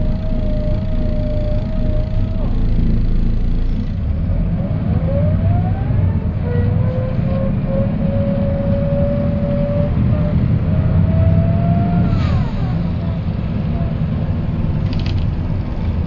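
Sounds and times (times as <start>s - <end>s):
diesel engine rumbling: 0.0s - 16.0s
drivetrain whine: 0.0s - 16.0s.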